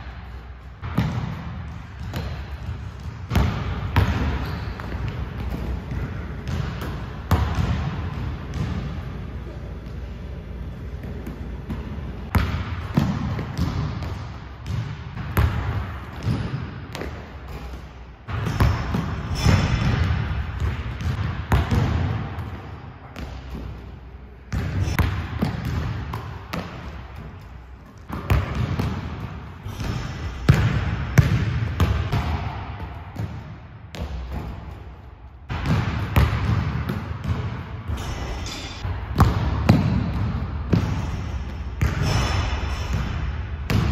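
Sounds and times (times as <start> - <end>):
low rumble of hall: 0.0 - 43.9
basketball bouncing on wooden floor: 0.8 - 9.1, 11.0 - 22.4, 24.5 - 27.4, 28.1 - 34.8, 35.5 - 43.9.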